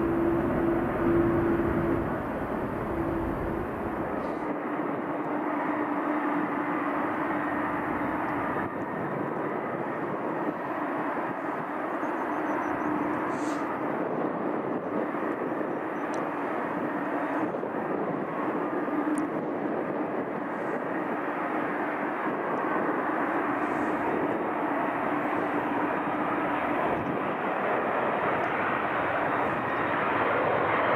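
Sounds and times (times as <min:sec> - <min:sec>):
jet engines humming: 0:00.0 - 0:30.9.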